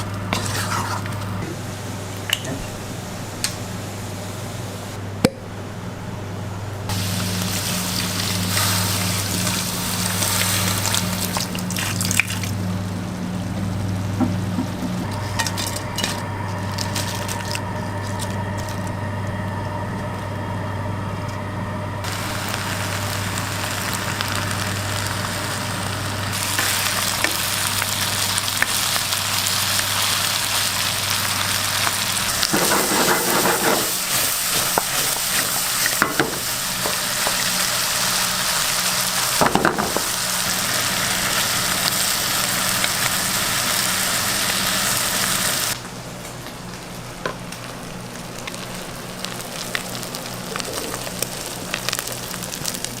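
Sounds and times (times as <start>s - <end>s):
food sizzling in a pan: 0.0s - 3.0s, 6.9s - 17.6s, 22.0s - 45.8s, 46.9s - 53.0s
steady low hum: 0.0s - 44.0s.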